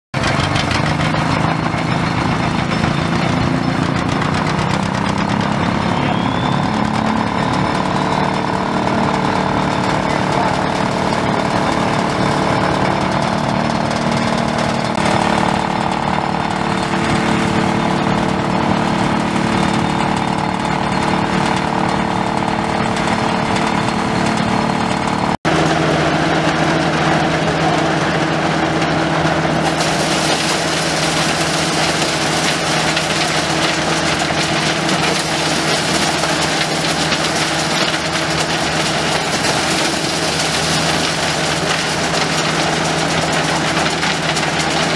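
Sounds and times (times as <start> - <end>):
corn sheller running: 0.1 - 44.9
tractor engine running: 0.1 - 44.9
thresher running: 0.2 - 44.9.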